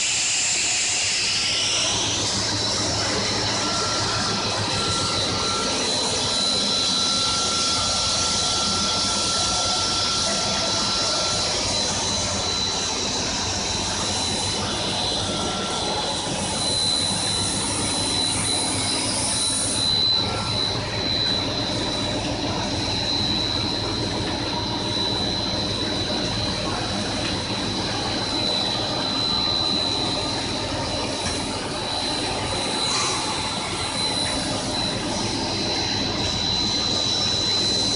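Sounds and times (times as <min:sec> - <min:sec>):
extrusion machinery running: 0:00.0 - 0:37.9
high-pitched whine: 0:00.0 - 0:37.9
lower machine whine: 0:00.0 - 0:37.9.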